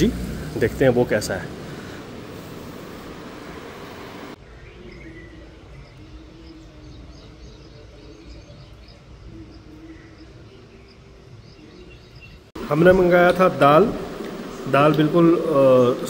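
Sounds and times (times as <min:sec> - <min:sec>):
low steady background noise: 0:00.0 - 0:16.0
small birds chirping: 0:00.0 - 0:16.0.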